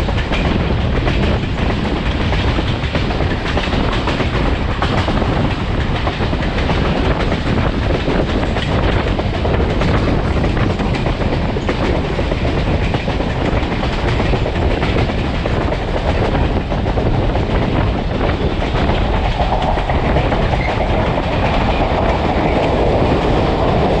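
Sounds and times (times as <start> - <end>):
railcar wheels on rails: 0.0 - 24.0.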